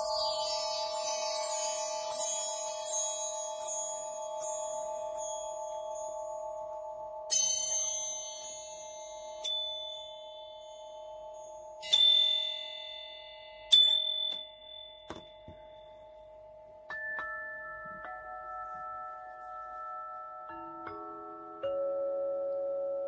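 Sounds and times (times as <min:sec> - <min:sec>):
bell-like chime tones: 0:00.0 - 0:23.0.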